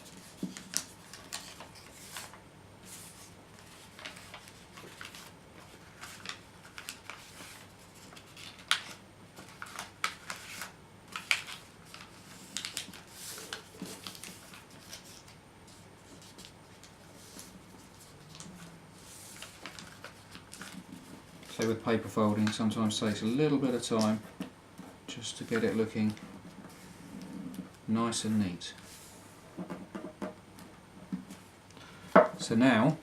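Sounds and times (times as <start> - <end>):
paper being folded and creased: 0.0 - 28.9.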